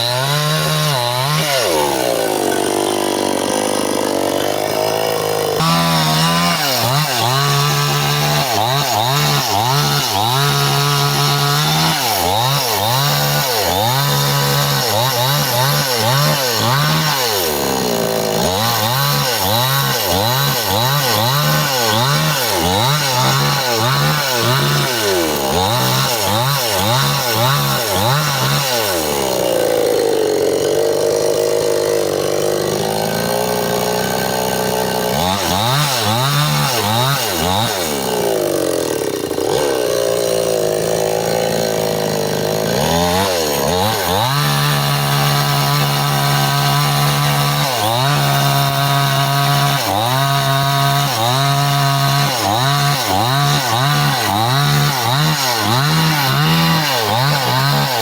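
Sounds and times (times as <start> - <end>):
chainsaw cutting a tree trunk: 0.0 - 58.0.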